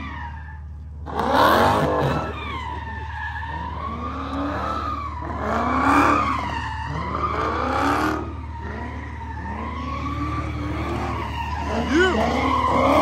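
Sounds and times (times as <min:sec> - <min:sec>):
car engine revving: 0:00.0 - 0:13.0
car tyres squealing: 0:00.0 - 0:13.0.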